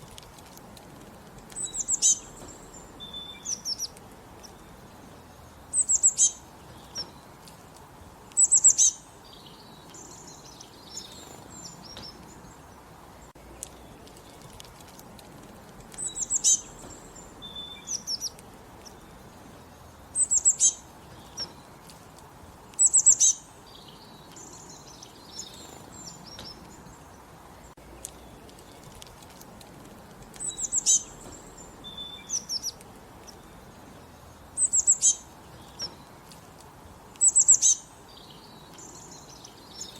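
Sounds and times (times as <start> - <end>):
low steady background hiss: 0.0 - 39.9
songbirds chirping: 0.0 - 39.9.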